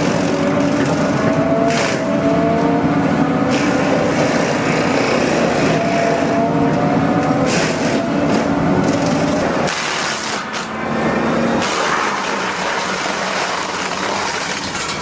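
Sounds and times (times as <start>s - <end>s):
wood-cutting machine engine: 0.0s - 15.0s.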